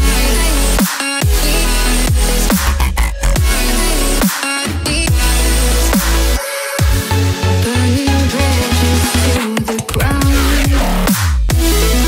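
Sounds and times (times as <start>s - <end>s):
dubstep music with heavy bass: 0.0s - 12.0s.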